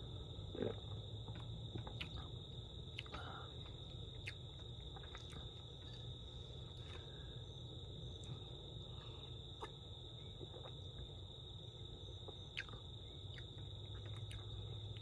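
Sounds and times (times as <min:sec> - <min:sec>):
low steady hum: 0:00.0 - 0:15.0
night insects trilling: 0:00.0 - 0:15.0.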